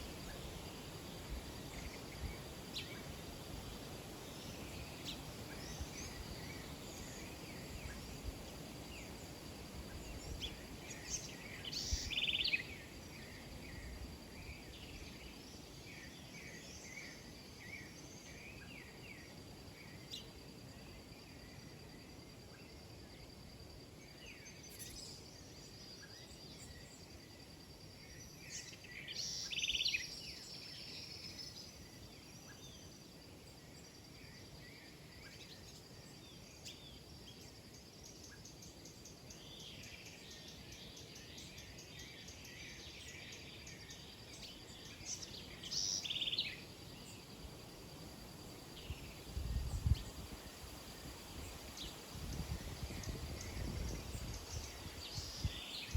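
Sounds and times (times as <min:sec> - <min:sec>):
small birds chirping: 0:00.0 - 0:20.4, 0:28.0 - 0:55.9.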